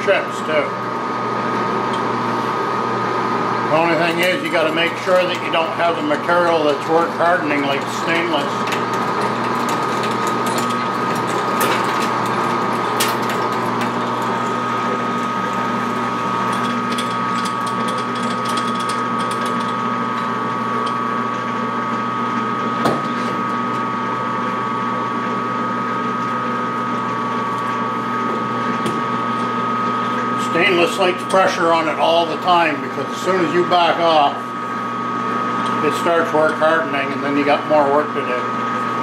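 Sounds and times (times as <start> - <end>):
machine spindle whine: 0.0 - 39.0.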